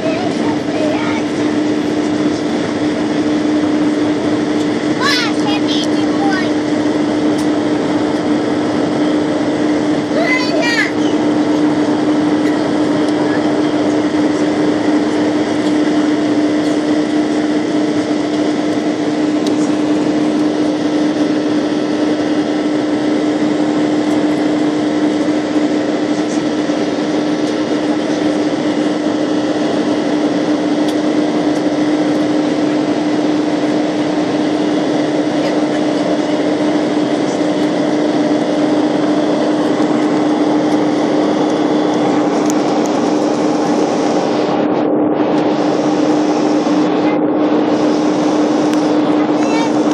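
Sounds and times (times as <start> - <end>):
airliner cabin noise: 0.0 - 49.9.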